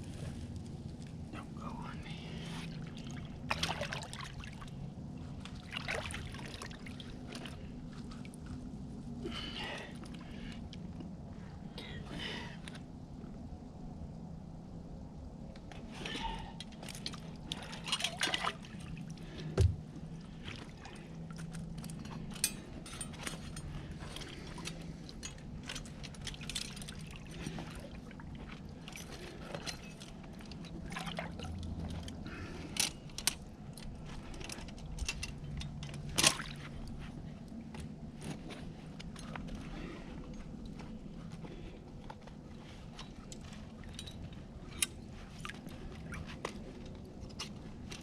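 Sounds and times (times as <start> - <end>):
water sloshing and splashing: 0.0 - 11.4, 15.6 - 40.9, 41.5 - 48.0.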